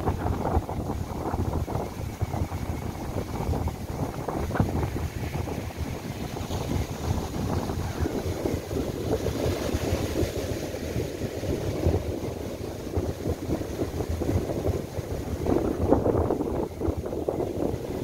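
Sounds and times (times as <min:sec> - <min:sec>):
gusty wind buffeting microphone: 0:00.0 - 0:18.0
surf breaking on beach: 0:00.0 - 0:18.0.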